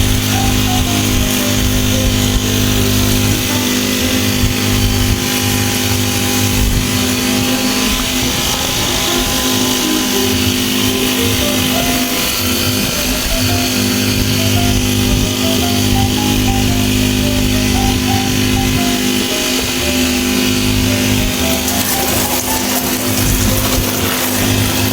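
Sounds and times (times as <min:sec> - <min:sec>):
small engine running: 0:00.0 - 0:24.9.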